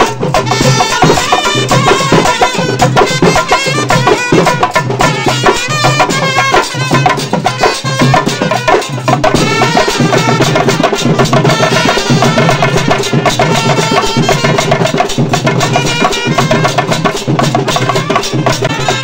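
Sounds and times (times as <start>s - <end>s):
frame drums beating: 0.0s - 19.0s
trumpets playing a tune: 0.0s - 19.0s.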